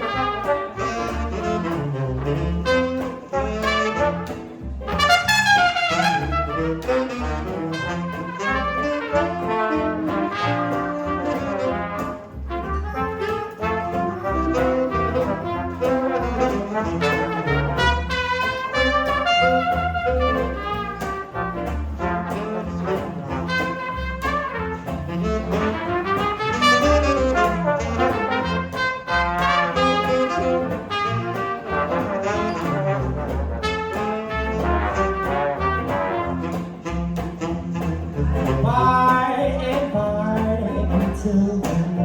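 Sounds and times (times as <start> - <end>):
brass horns melody: 0.0 - 39.6
jazz band playing: 0.0 - 42.0.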